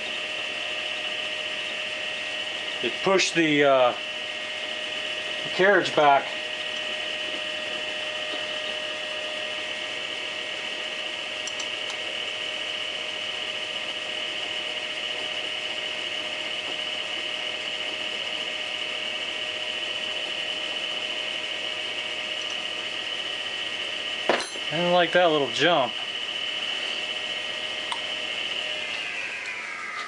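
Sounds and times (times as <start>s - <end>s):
lathe running with whine: 0.0s - 30.0s.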